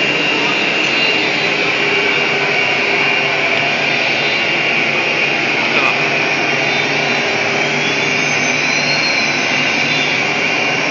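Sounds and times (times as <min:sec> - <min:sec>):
cnc router spindle whine: 0:00.0 - 0:10.9.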